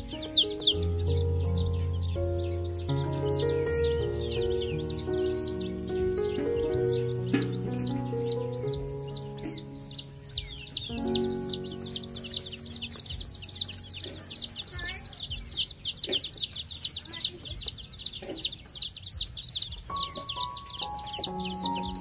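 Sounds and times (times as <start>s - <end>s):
chicks peeping: 0.0s - 22.0s
soft background music: 0.0s - 22.0s.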